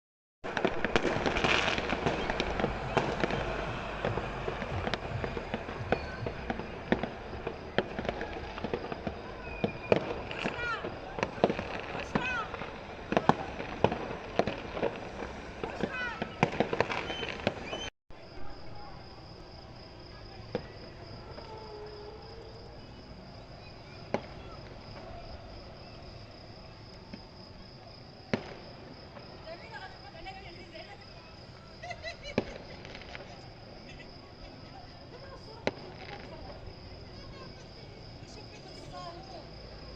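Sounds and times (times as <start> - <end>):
fireworks and firecrackers banging: 0.4 - 39.9.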